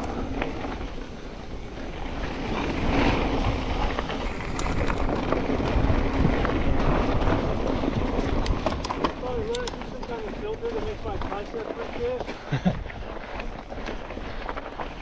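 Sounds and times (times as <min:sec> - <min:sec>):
bike clicks and rattles: 0:00.0 - 0:15.0
bike tyres rolling over dirt: 0:00.0 - 0:15.0
wind buffeting microphone: 0:00.0 - 0:15.0.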